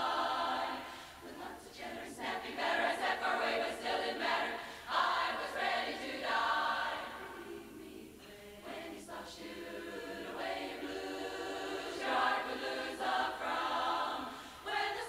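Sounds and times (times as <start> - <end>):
women's chorus singing a cappella: 0.0 - 15.0.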